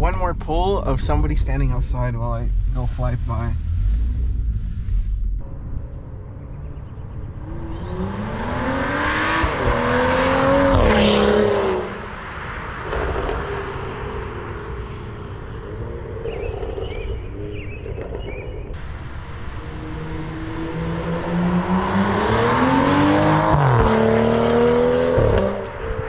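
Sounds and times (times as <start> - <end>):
car engine accelerating past: 3.6 - 26.0.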